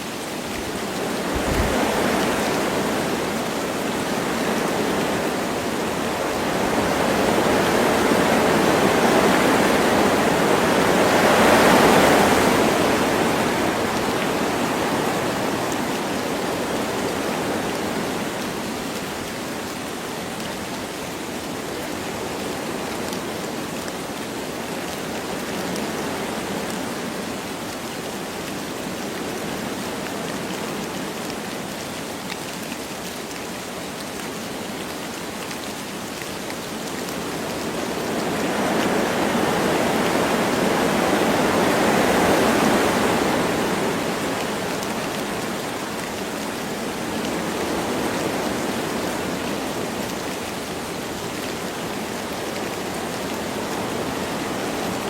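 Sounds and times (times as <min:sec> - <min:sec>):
light rain: 0:00.0 - 0:55.0
wind through trees: 0:00.0 - 0:55.0.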